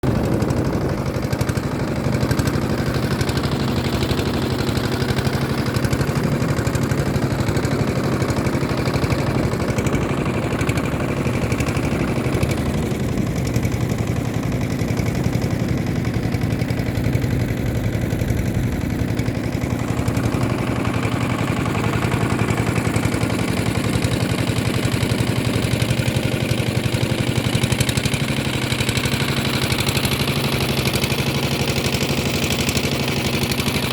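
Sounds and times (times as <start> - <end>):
boat engine running: 0.0 - 33.9.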